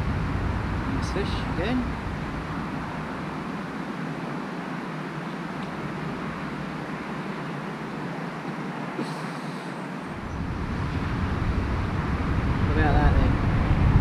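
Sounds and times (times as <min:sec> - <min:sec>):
wind buffeting microphone: 0:00.0 - 0:09.0, 0:10.1 - 0:14.0
rushing wind: 0:00.0 - 0:14.0.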